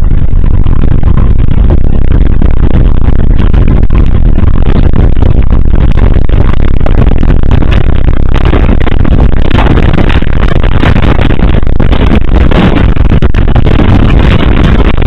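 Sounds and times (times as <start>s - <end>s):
earthquake rumble: 0.0s - 15.0s.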